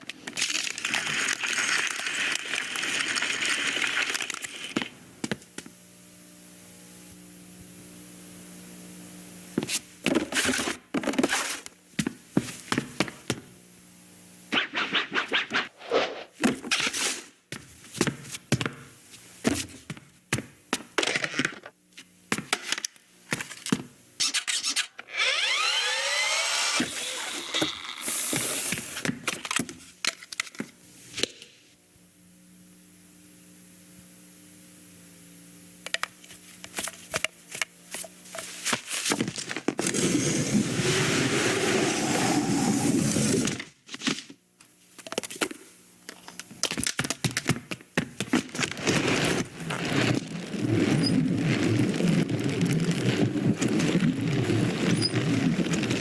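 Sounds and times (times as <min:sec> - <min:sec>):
steady hum: 0:00.0 - 0:21.1, 0:25.1 - 0:56.0.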